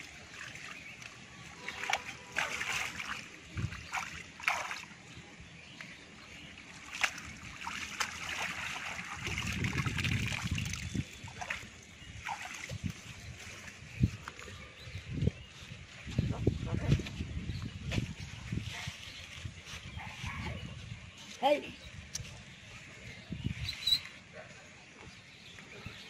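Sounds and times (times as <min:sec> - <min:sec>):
water splashing and trickling: 0:00.0 - 0:23.7.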